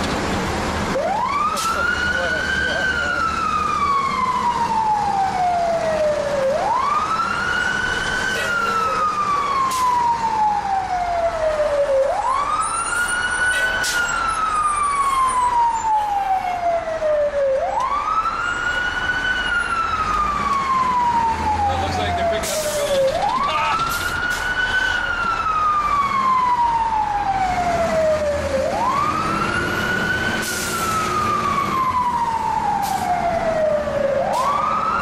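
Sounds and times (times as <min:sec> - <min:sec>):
fire engine siren wailing: 0:00.0 - 0:35.0
truck low rumble: 0:00.0 - 0:35.0.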